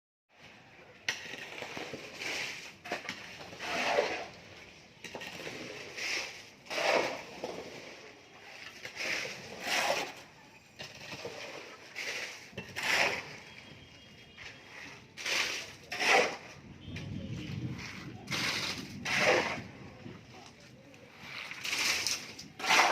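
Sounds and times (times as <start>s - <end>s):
hand tool scraping gritty material: 0.8s - 22.9s.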